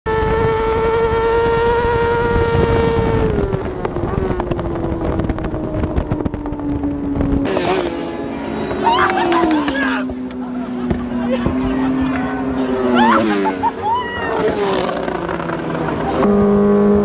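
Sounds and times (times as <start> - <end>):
motorcycle engine at high revs: 0.1 - 17.0.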